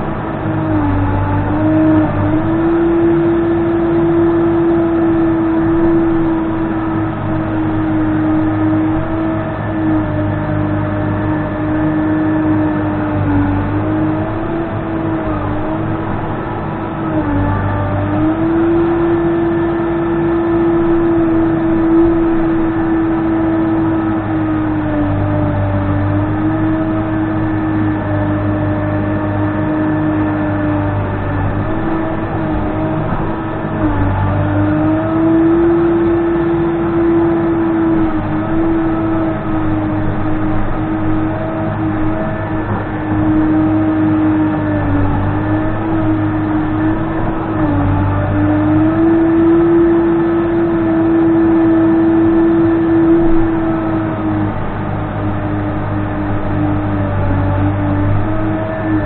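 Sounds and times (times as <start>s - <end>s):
diesel engine running at high revs: 0.0s - 59.0s.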